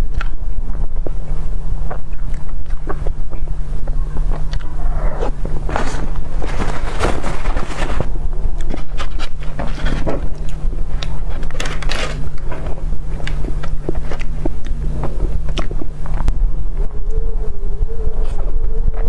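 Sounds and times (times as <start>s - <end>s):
close chewing and mouth clicks: 0.0s - 19.0s
steady low hum: 0.0s - 19.0s.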